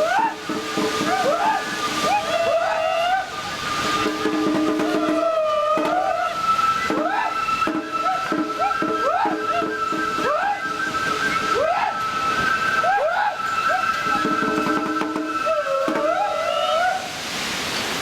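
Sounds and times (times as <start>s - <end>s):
flute phrases of sliding notes: 0.0s - 17.2s
long high flute note: 0.0s - 17.2s.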